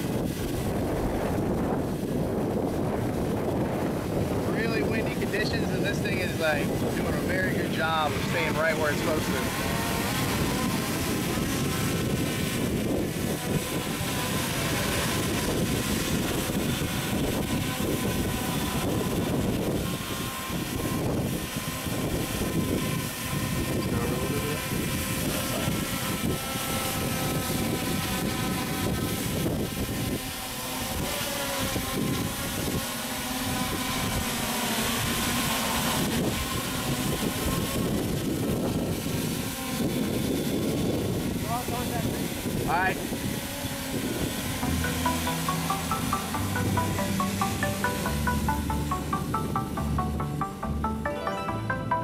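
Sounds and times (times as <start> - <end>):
wind buffeting microphone: 0.0 - 44.9
drone propellers whirring: 0.0 - 52.0.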